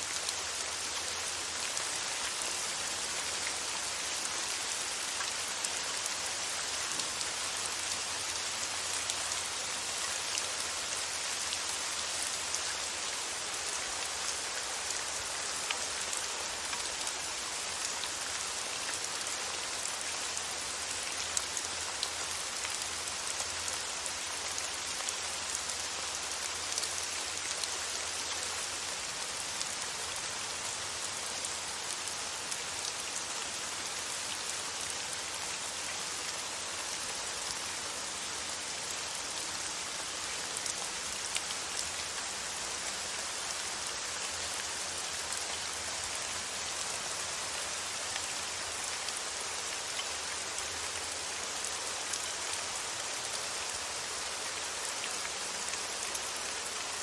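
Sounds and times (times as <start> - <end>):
steady rain pattering: 0.0 - 57.0.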